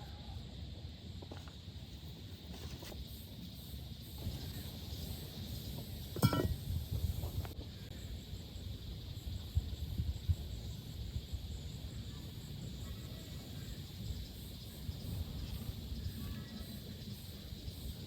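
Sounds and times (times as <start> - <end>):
faint insect chirps: 0.0 - 18.0.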